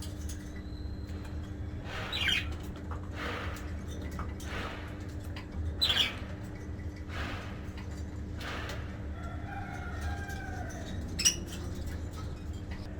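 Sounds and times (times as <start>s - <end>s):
budgies fluttering and rustling: 1.1s - 8.9s, 9.6s - 12.8s.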